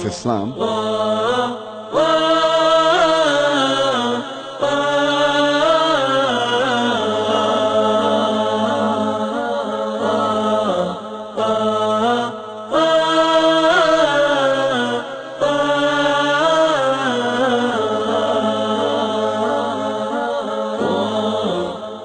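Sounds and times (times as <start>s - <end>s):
solo voice chanting: 0.0s - 22.0s.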